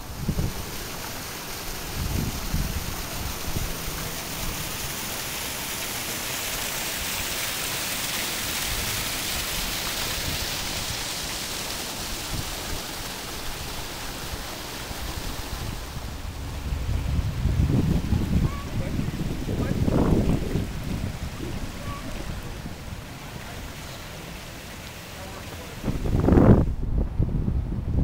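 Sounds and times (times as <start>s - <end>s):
water gushing and splashing: 0.0s - 26.8s.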